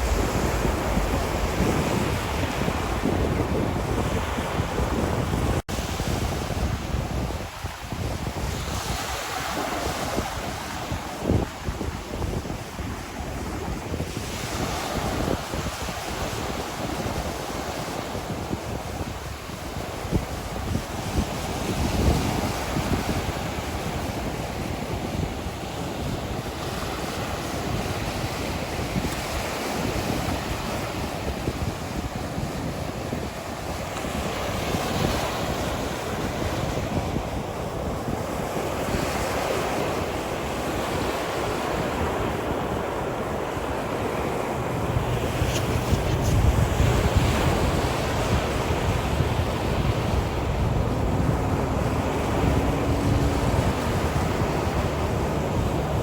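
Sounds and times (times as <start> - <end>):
sea waves washing onto shore: 0.0 - 56.0
wind: 0.0 - 56.0
wind buffeting microphone: 0.0 - 56.0.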